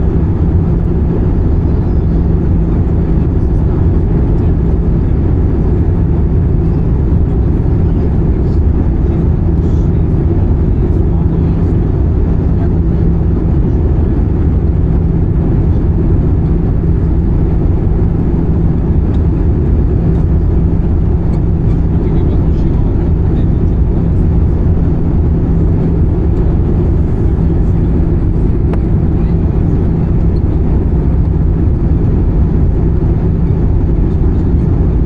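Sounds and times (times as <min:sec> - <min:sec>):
airplane cabin roar: 0:00.0 - 0:35.0
steady low hum: 0:00.0 - 0:35.0.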